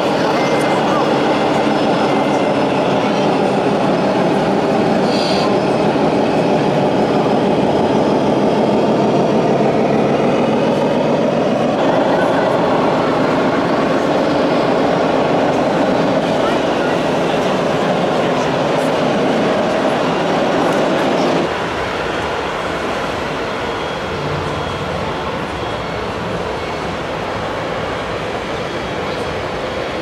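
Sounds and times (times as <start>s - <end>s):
exhibition hall noise: 0.0s - 30.0s.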